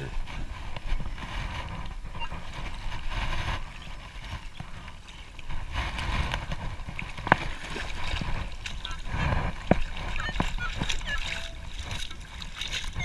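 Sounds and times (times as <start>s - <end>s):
water sloshing: 0.0s - 13.0s.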